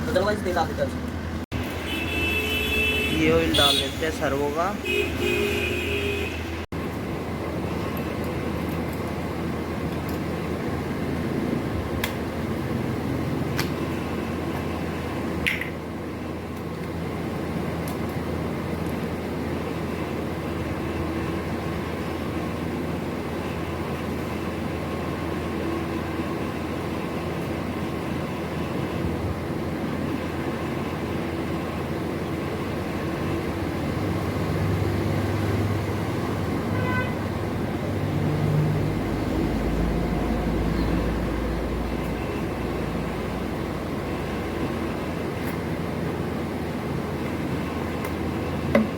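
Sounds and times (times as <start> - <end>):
vehicle engines rumbling: 0.0 - 48.9.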